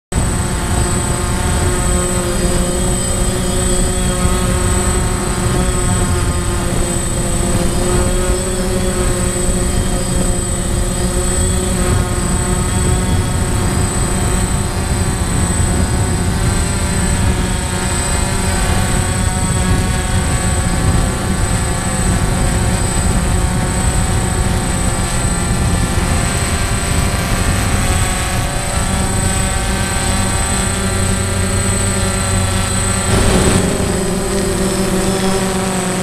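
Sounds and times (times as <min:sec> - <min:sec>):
drone propellers buzzing: 0:00.1 - 0:36.0
thin high whine: 0:00.2 - 0:25.6, 0:28.0 - 0:36.0.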